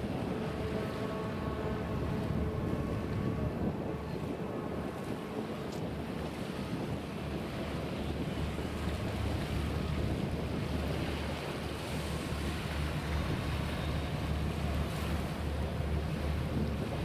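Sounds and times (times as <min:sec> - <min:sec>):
water noise: 0:00.0 - 0:17.0
wind buffeting microphone: 0:00.0 - 0:17.0.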